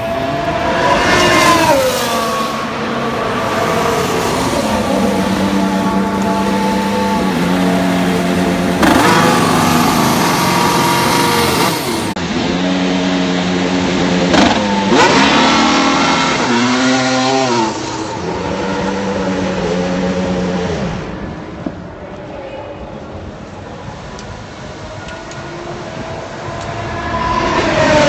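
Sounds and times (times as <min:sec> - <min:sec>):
racing car engines revving: 0:00.0 - 0:28.0.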